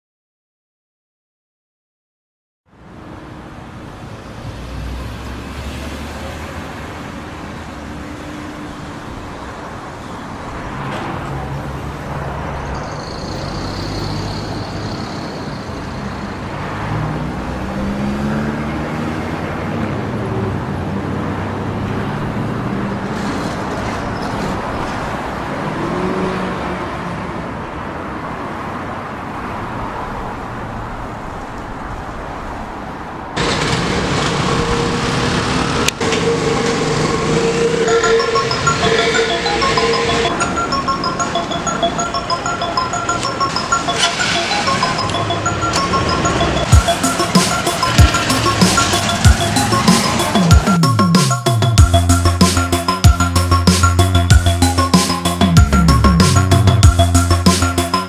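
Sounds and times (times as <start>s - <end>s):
road traffic passing: 2.7s - 58.0s.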